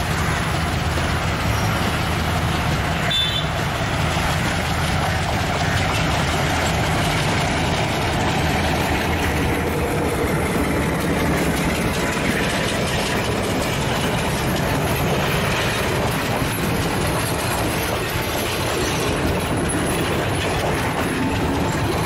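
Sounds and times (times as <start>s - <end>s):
diesel locomotive engine: 0.0s - 22.0s
train wheels on rails: 0.0s - 22.0s.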